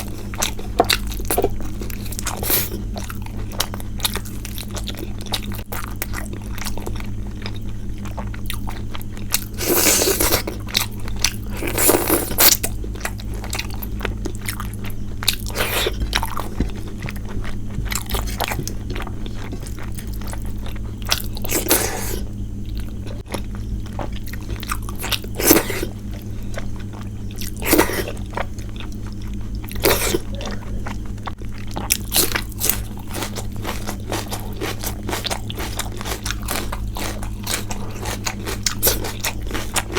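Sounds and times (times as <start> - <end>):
crunchy bites: 0.0 - 39.9
person chewing food: 0.0 - 39.9
steady low hum: 0.0 - 39.9.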